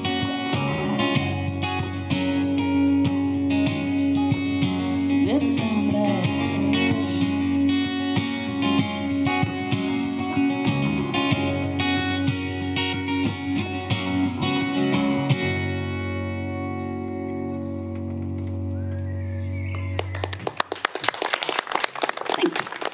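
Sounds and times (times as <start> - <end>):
acoustic guitar strumming: 0.0 - 19.6
bass guitar: 0.0 - 20.6.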